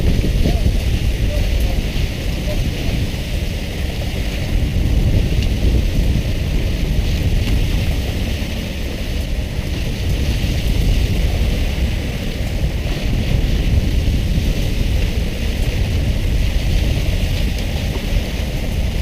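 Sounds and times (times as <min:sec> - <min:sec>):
water splashing on sea surface: 0:00.0 - 0:19.0
wind rumble on microphone: 0:00.0 - 0:19.0.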